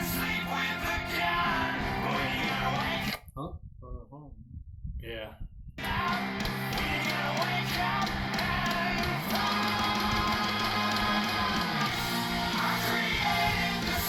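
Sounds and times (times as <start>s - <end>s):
heavy rock song: 0.0s - 3.2s, 5.8s - 14.0s.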